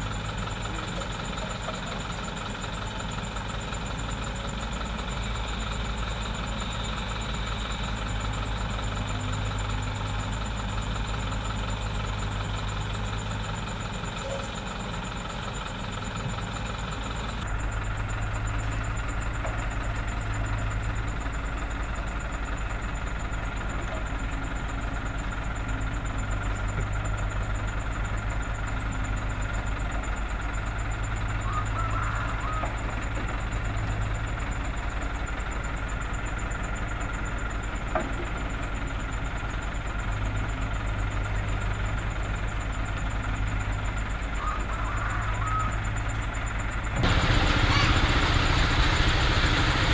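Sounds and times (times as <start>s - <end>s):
dump truck engine running: 0.0s - 49.9s
excavator diesel engine running: 0.0s - 49.9s.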